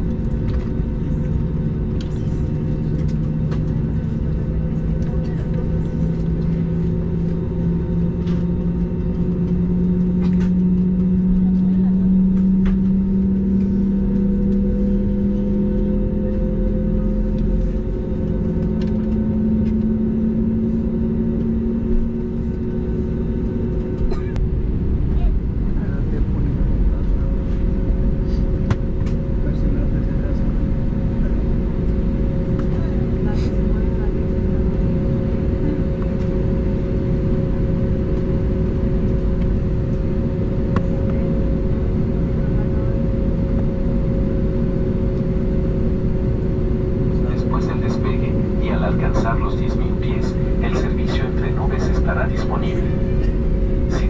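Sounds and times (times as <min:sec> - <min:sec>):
airplane cabin engine drone: 0:00.0 - 0:54.0
steady hums: 0:00.0 - 0:54.0.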